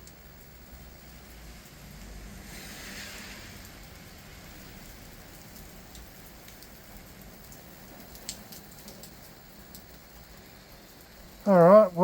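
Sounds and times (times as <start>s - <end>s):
steady rain falling: 0.0s - 12.0s
water drips: 0.0s - 12.0s.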